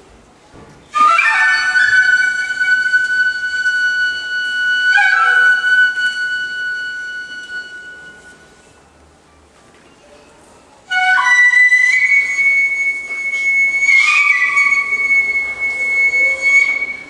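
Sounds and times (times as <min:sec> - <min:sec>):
bamboo flute long high notes: 0:00.9 - 0:08.8, 0:10.8 - 0:17.0.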